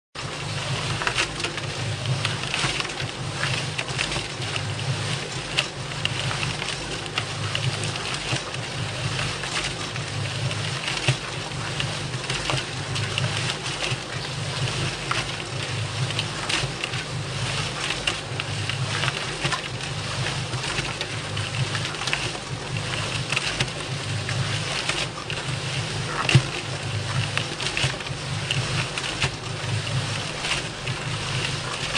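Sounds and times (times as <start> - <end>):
concrete mixer running: 0.2 - 31.9.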